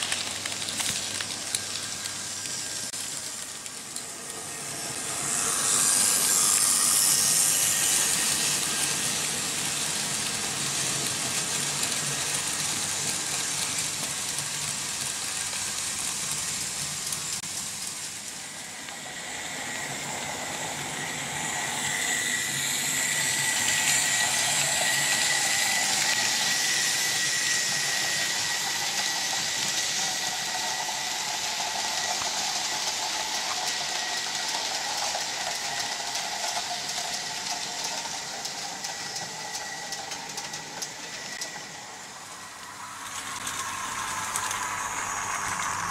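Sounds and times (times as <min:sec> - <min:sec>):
thin steady whine: 0:00.0 - 0:15.9, 0:16.6 - 0:45.9
model train wheels rattling on rails: 0:00.0 - 0:45.9.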